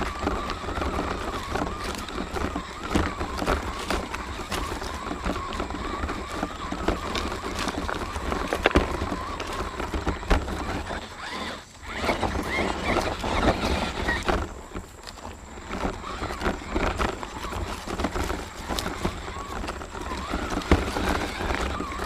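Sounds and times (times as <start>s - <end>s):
toy car motor whining: 0.0s - 22.0s
tyres clattering on stones: 0.0s - 22.0s.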